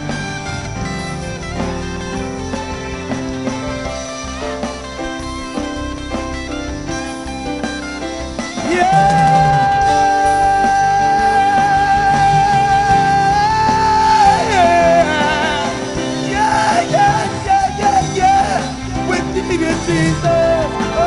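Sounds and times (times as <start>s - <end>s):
worship band music with guitar: 0.0s - 21.0s.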